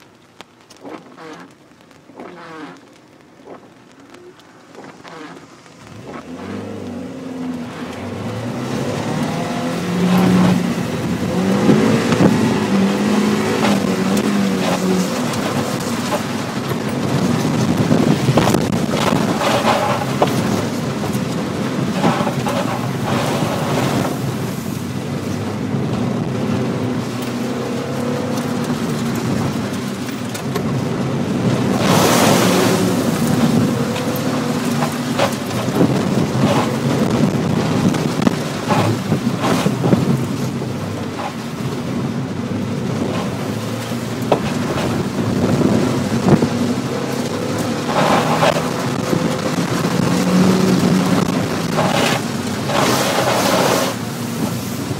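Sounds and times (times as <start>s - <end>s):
tyres hissing on wet pavement: 0.0s - 42.3s, 43.1s - 54.9s
car engine pulling: 0.0s - 54.9s
water spraying: 0.0s - 54.9s.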